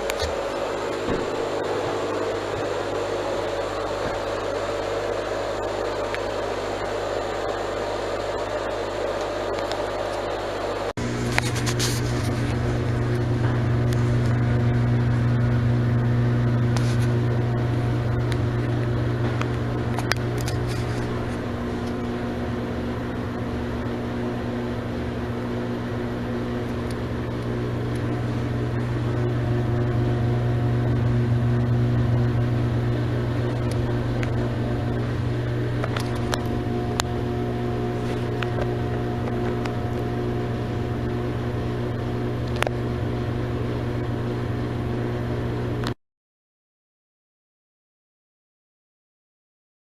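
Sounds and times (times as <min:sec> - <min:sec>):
exhaust fan humming: 0:00.0 - 0:46.0.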